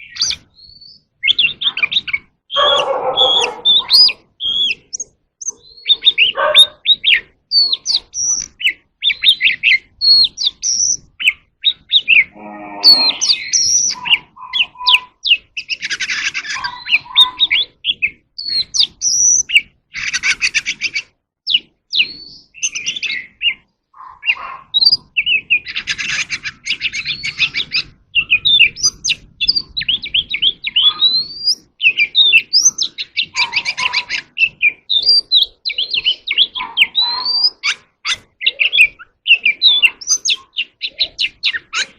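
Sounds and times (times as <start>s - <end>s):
bird whistling song: 0.0s - 41.9s.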